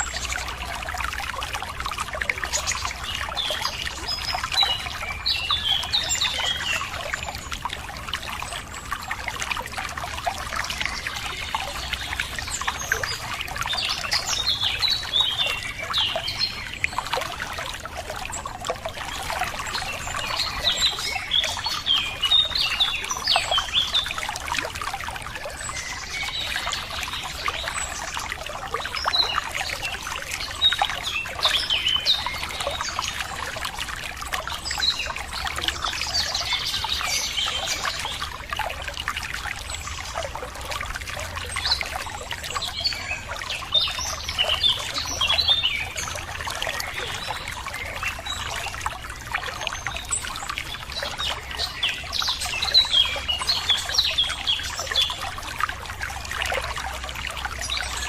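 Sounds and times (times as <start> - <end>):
small birds chirping: 0.0 - 55.4
running water trickling: 0.0 - 58.0.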